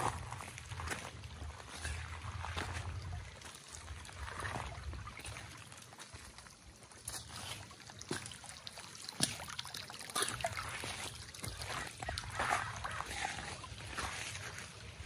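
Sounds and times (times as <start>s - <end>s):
creek trickling over stones: 0.0s - 15.0s.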